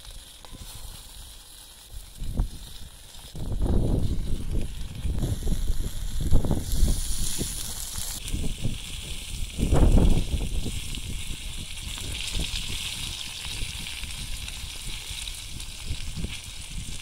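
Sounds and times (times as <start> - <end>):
bread scraping in skillet: 0.0 - 17.0
skillet sizzling: 0.0 - 17.0.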